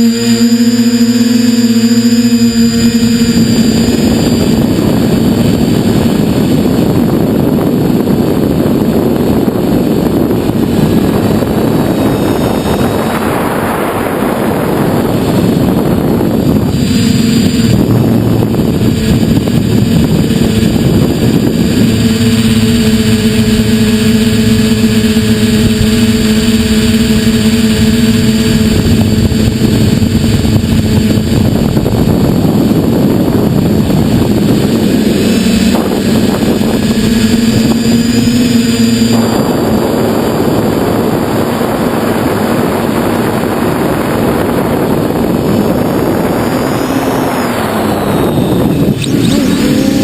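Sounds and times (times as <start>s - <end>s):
quadcopter motors humming: 0.0s - 50.0s
rushing air noise: 0.0s - 50.0s.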